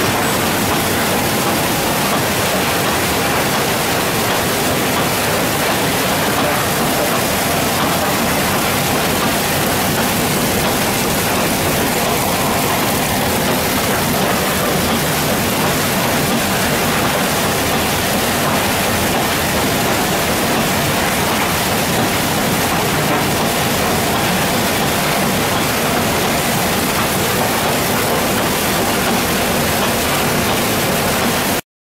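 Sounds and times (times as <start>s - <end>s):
machinery humming: 0.0s - 31.6s.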